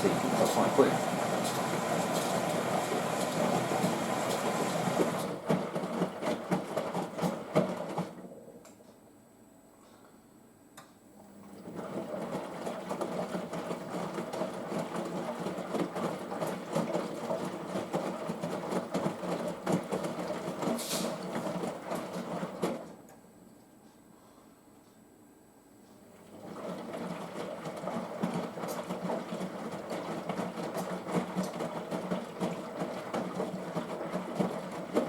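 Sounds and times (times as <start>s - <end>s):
washing machine drum tumbling: 0.0s - 8.2s, 11.7s - 23.0s, 26.4s - 35.0s.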